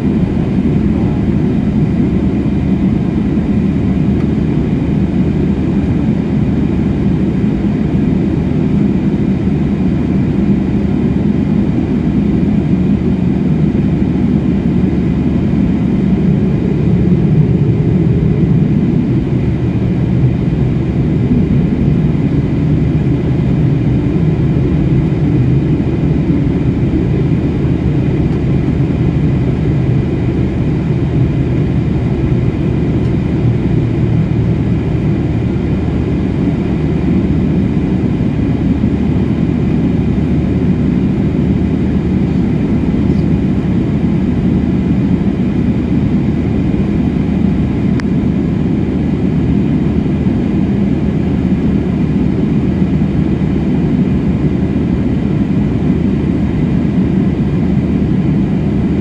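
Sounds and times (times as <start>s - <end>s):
faint whine: 0.0s - 59.0s
jet engine rumble: 0.0s - 59.0s.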